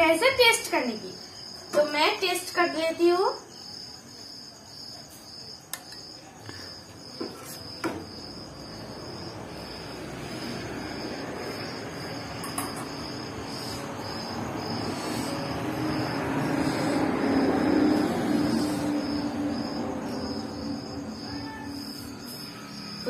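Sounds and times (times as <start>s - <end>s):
insects chirping: 0.0s - 23.0s.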